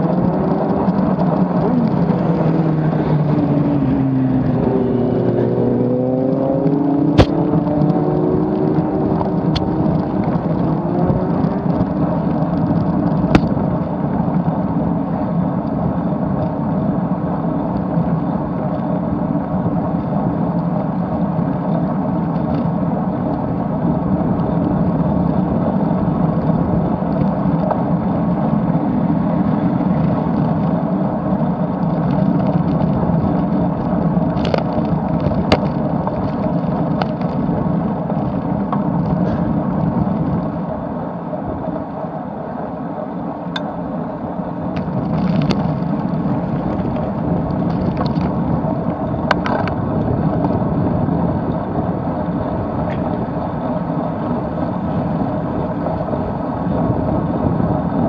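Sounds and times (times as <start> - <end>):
wind and road rushing: 0.0 - 58.0.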